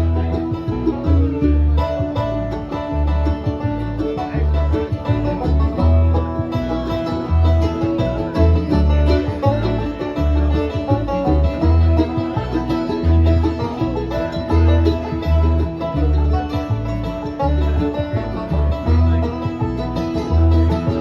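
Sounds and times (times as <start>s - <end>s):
banjo picking: 0.0s - 21.0s
guitar: 0.0s - 21.0s
low bass notes: 0.0s - 21.0s.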